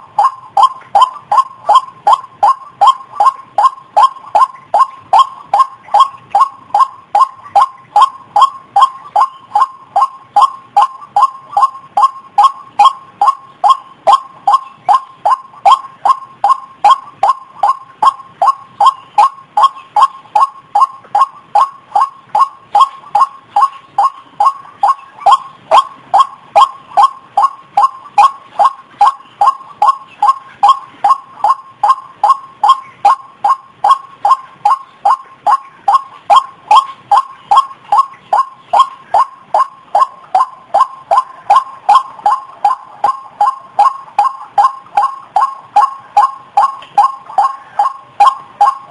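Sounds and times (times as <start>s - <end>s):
waterhen calling: 0.0s - 48.9s.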